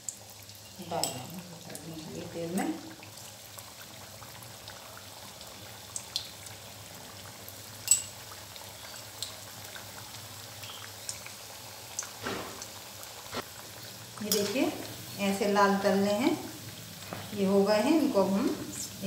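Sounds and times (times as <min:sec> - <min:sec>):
bubbling hiss of deep-frying oil: 0:00.0 - 0:19.0.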